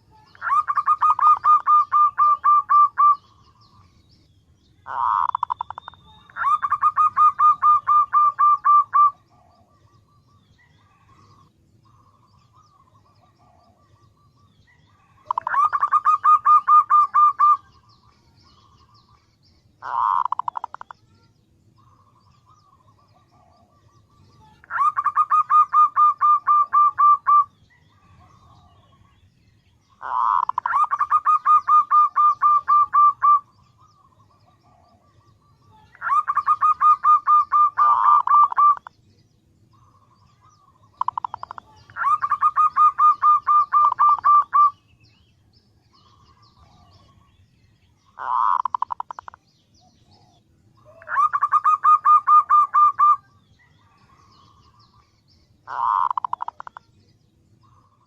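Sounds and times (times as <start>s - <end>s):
dove cooing: 0.0s - 3.8s, 4.8s - 17.9s, 19.8s - 21.0s, 21.8s - 28.9s, 30.0s - 38.9s, 39.7s - 44.8s, 48.2s - 49.4s, 50.1s - 54.8s, 55.6s - 56.9s.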